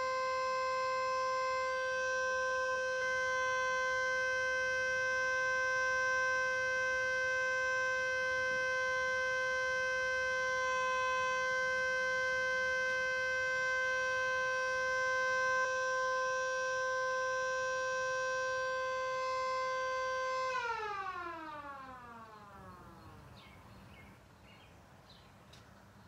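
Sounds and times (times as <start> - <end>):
siren steady tone: 0.0 - 23.4.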